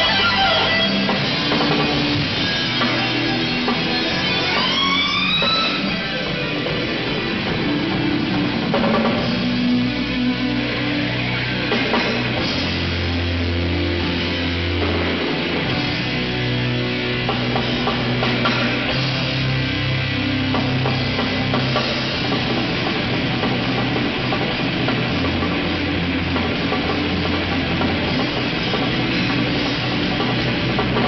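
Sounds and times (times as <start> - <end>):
drum kit: 0.0 - 31.0
electric guitars: 0.0 - 31.0.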